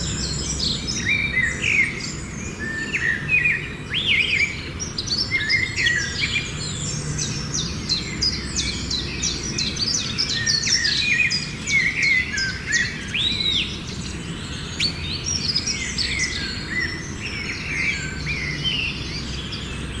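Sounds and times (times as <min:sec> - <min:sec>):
many birds chirping: 0:00.0 - 0:20.0.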